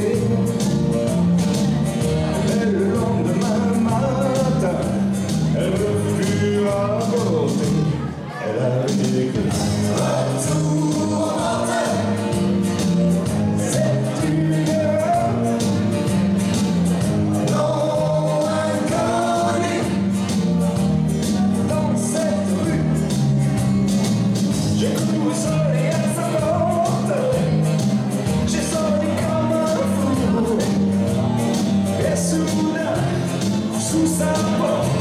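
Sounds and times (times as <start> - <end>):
upbeat song with singing: 0.0 - 35.0.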